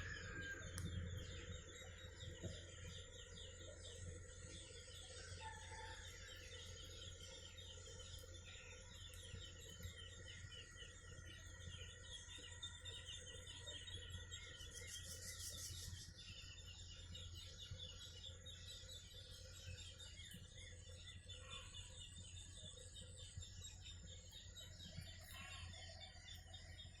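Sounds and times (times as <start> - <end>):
faint birds chirping: 0.0 - 27.0
steady low hum: 0.0 - 27.0.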